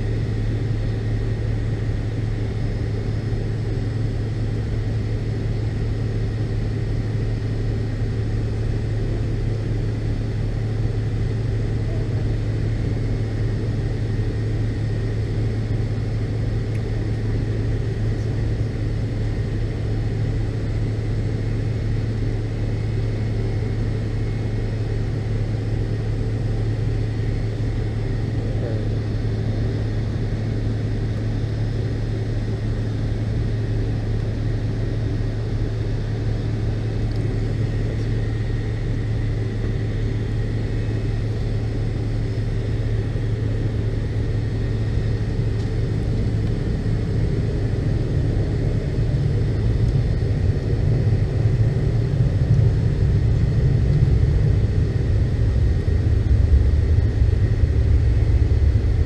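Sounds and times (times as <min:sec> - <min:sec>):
airliner taxiing rumble: 0:00.0 - 0:59.0
faint thin engine whine: 0:00.0 - 0:59.0
jet engines idling: 0:00.0 - 0:59.0.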